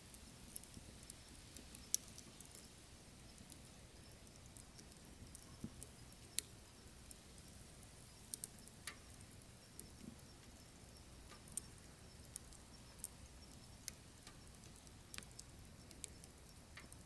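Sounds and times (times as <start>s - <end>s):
faint steady hiss: 0.0s - 17.0s
firewood crackling and popping: 0.0s - 17.0s.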